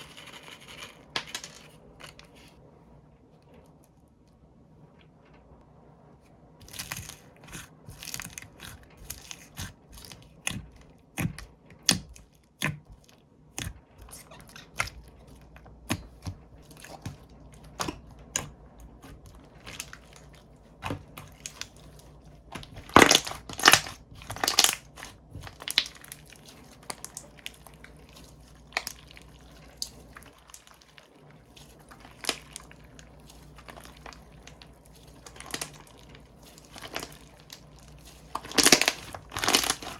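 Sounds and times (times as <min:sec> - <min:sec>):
slime squishing and popping: 0:06.6 - 0:39.9.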